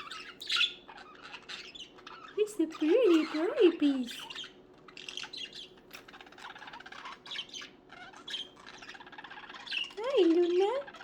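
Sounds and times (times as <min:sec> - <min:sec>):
budgerigars chirping: 0:00.0 - 0:11.0.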